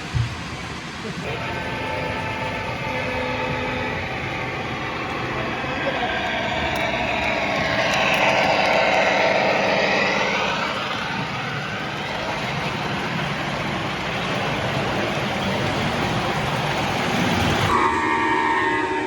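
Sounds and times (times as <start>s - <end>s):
model train motor whine: 1.3s - 19.0s.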